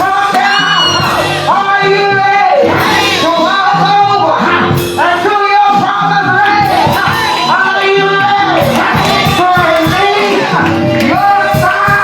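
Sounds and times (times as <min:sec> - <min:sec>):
band accompaniment: 0:00.0 - 0:12.0
voices singing praise music: 0:00.0 - 0:12.0.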